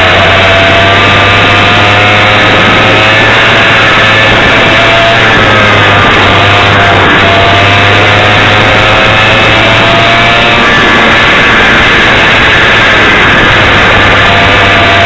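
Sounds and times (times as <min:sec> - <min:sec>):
kart engine distorted buzz: 0:00.0 - 0:15.0.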